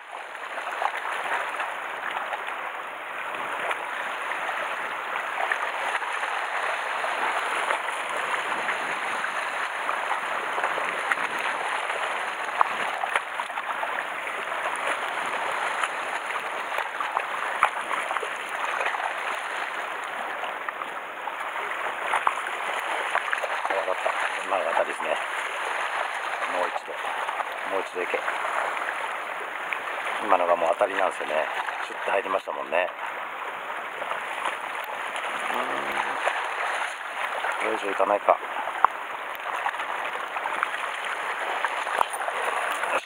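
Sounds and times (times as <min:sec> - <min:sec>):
water lapping against rocks: 0:00.0 - 0:43.0.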